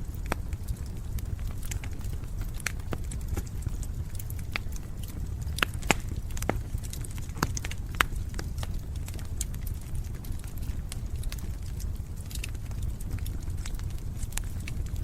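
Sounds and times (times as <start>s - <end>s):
firewood crackling and popping: 0.0s - 15.0s
low steady rumble: 0.0s - 15.0s.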